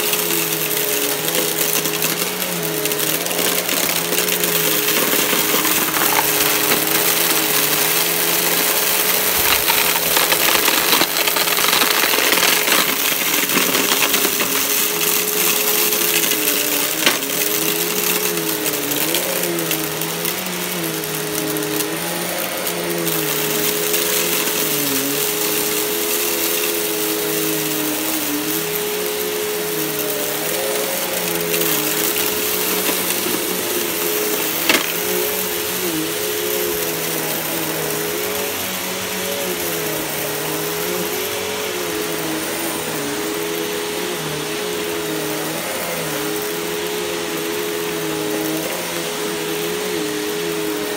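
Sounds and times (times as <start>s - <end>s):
grit clicking into vacuum: 0.0s - 46.8s
vacuum cleaner running on carpet: 0.0s - 50.9s.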